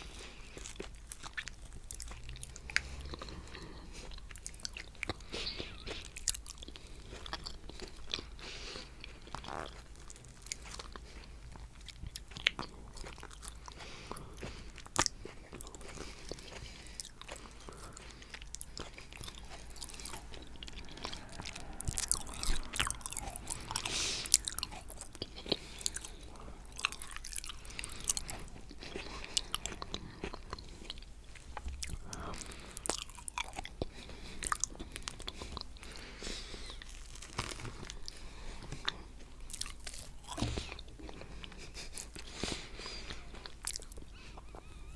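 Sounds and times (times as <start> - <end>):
wet chewing and lip smacks: 0.0 - 44.9
soft crunches: 0.1 - 44.9.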